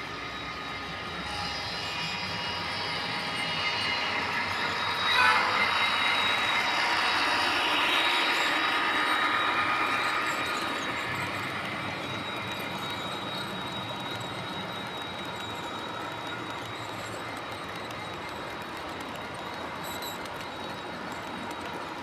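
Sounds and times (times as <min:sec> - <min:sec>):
model train wheels rumbling: 0:01.1 - 0:22.0.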